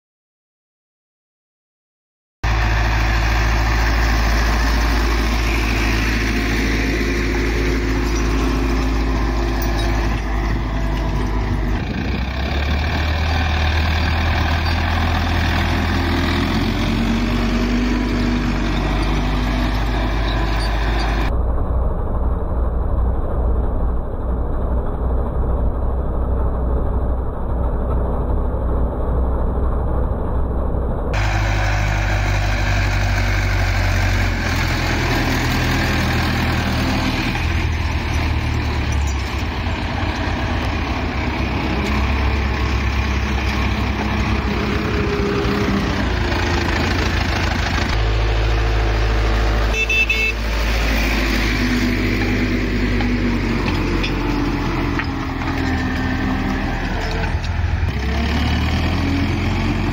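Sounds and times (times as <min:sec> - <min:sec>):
tractor diesel engine under load: 0:02.4 - 0:59.9.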